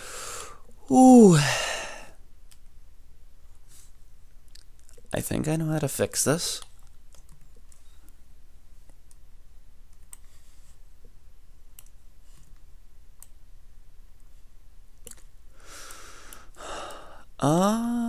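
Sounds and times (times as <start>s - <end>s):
faint low hum: 0.0s - 18.0s
soft hiss: 0.0s - 18.0s.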